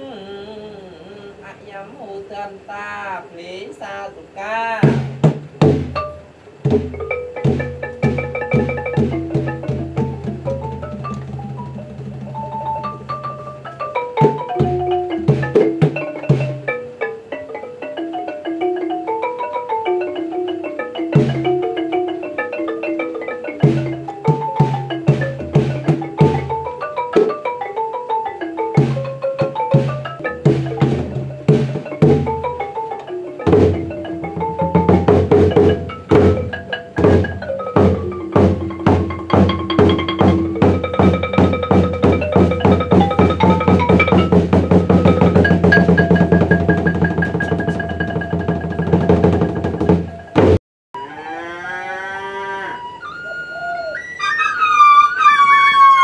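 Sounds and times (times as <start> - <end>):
drum beats: 4.7 - 50.6
struck pitched melody: 4.8 - 51.6, 52.3 - 56.0.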